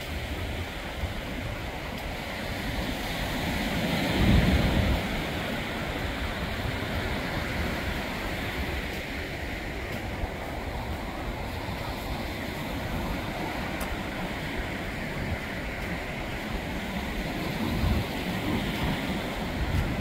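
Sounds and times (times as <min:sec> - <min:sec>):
surf waves breaking on beach: 0:00.0 - 0:20.0.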